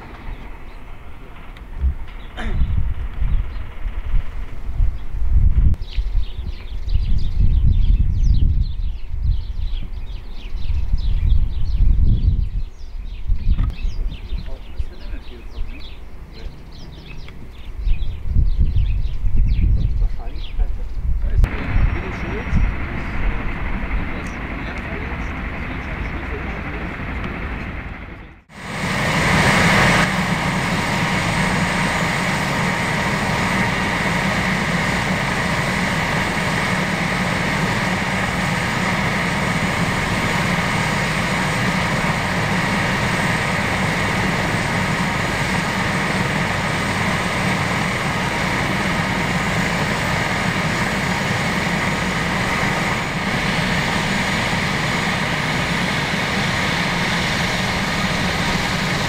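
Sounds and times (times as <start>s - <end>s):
helicopter rotor rush: 0.0s - 9.4s, 13.4s - 59.0s
helicopter turbine whine: 0.0s - 59.0s.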